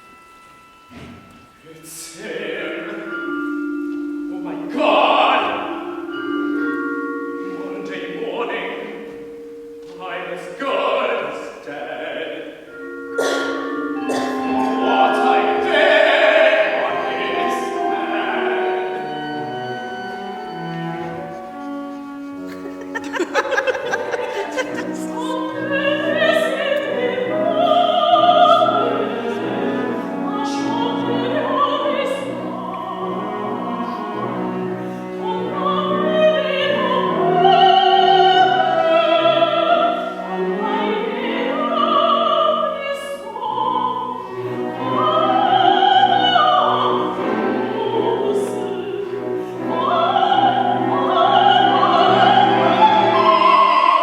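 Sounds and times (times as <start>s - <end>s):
orchestral accompaniment: 0.0s - 54.0s
operatic singing with vibrato: 1.6s - 54.0s.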